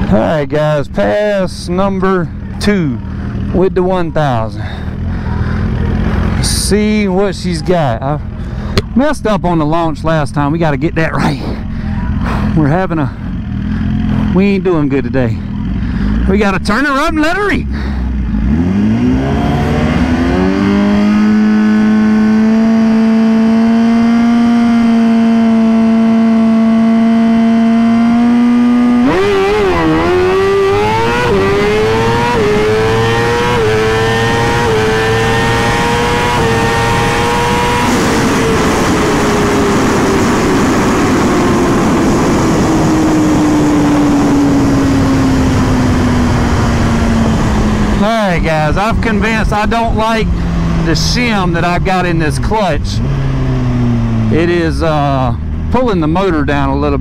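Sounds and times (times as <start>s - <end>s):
motorcycle engine revving: 1.1s - 9.6s, 11.1s - 56.8s.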